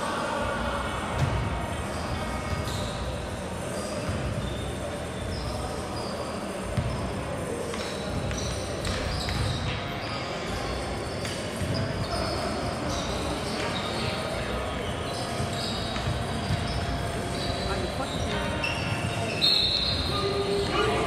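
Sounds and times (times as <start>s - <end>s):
shoes squeaking on court: 1.8s - 21.0s.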